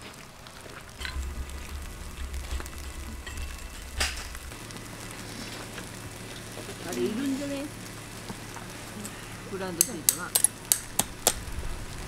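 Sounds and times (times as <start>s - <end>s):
hiss of snow falling: 0.0s - 9.8s, 10.5s - 12.0s
low rumble: 0.4s - 9.5s, 10.7s - 12.0s.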